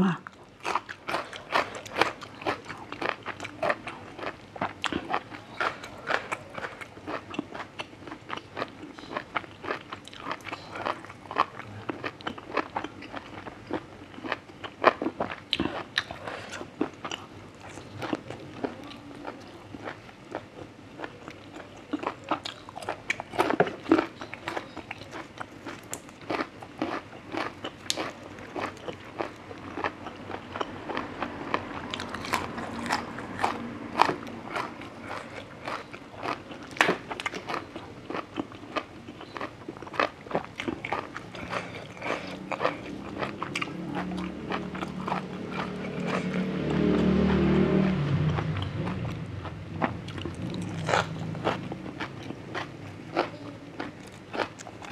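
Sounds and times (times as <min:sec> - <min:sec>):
close chewing and biting: 0:00.3 - 0:54.9.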